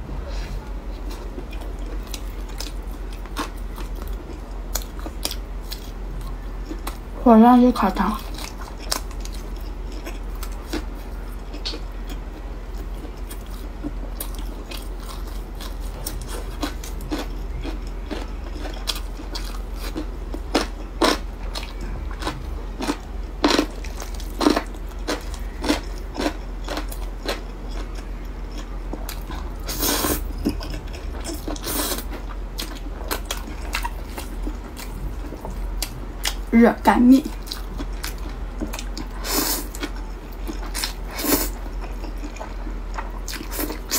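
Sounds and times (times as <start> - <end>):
steady low hum: 0.0 - 43.9
person chewing food: 0.9 - 7.0, 8.2 - 36.5, 37.3 - 43.9.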